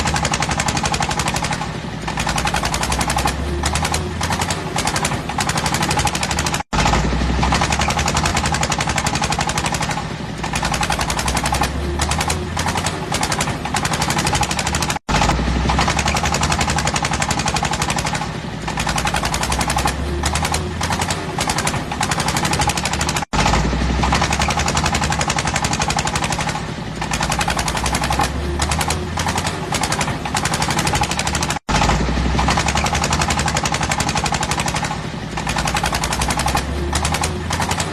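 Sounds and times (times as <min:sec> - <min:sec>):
diesel engine chugging: 0:00.0 - 0:37.9.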